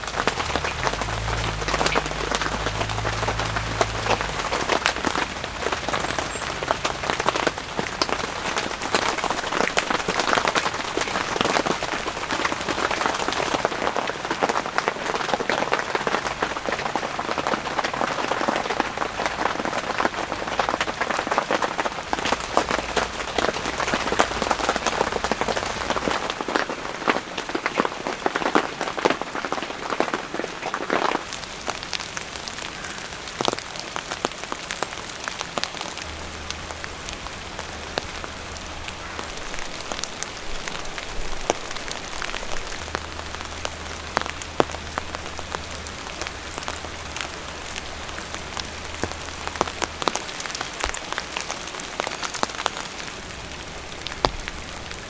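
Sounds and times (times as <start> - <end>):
raindrops striking a surface: 0.0 - 55.0
steady rain falling: 0.0 - 55.0.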